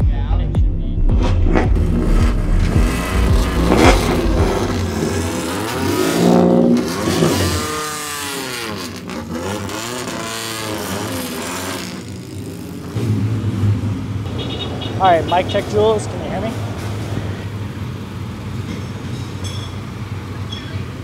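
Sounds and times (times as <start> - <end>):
race car engines revving: 1.2 - 21.0.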